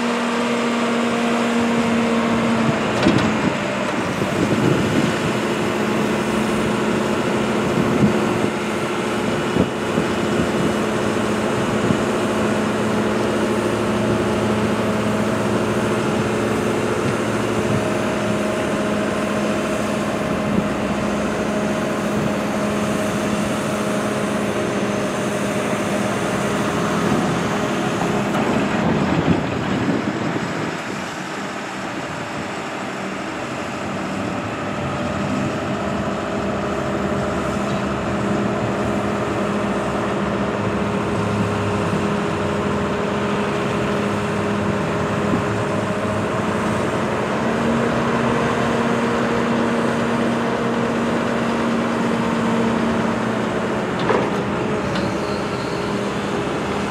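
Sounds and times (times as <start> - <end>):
rush of noise: 0.0 - 53.3
telehandler engine running: 1.4 - 56.9.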